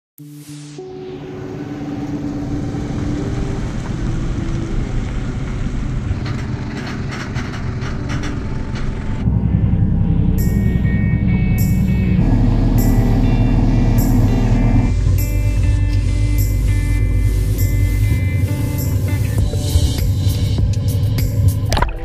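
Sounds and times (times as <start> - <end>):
engine running with low hum: 0.8 - 21.8.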